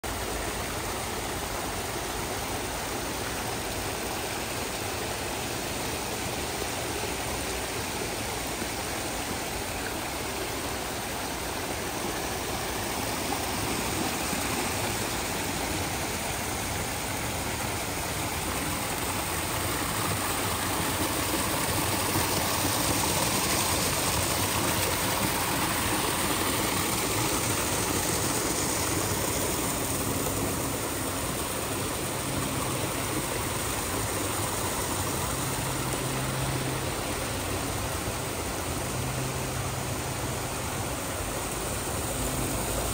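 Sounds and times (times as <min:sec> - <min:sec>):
waterfall cascading over rocks: 0:00.0 - 0:42.9.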